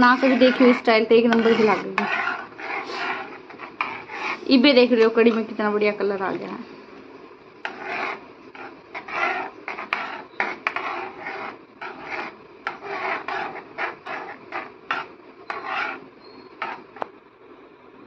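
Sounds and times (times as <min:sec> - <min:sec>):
ladle scraping metal pot: 0:00.0 - 0:05.6, 0:07.6 - 0:17.0.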